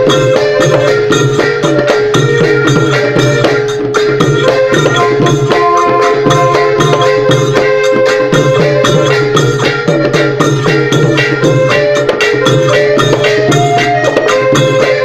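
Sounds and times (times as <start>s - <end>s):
held melodic tones: 0.0s - 15.0s
rapid hand-drum strokes: 0.0s - 15.0s.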